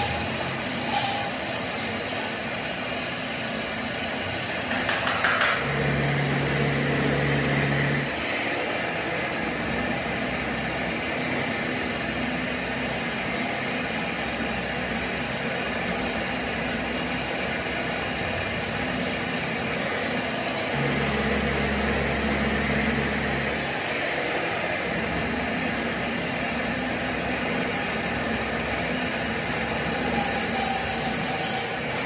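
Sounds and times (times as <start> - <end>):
workshop machinery running: 0.0 - 32.0.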